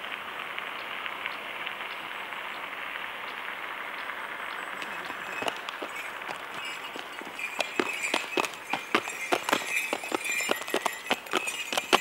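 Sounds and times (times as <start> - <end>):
steady hiss: 0.0 - 10.3
hooves clopping on wet asphalt: 0.0 - 12.0.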